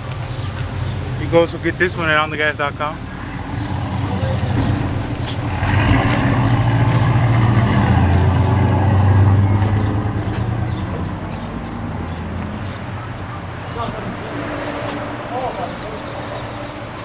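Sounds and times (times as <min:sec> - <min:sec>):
vehicle engine running: 0:00.0 - 0:16.9.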